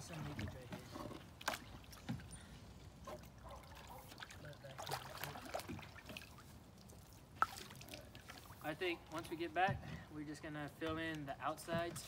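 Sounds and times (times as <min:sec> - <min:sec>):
water trickling from paddle: 0:00.0 - 0:10.2.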